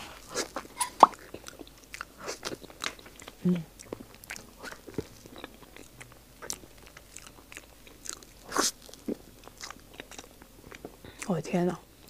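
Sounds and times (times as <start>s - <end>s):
biting and chewing: 0.0s - 12.0s.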